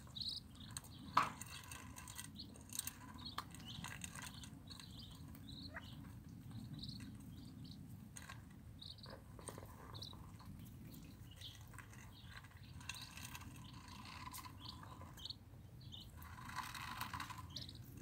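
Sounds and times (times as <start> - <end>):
birds pecking in a metal dish: 0.0 - 18.0
ducklings peeping: 0.0 - 18.0.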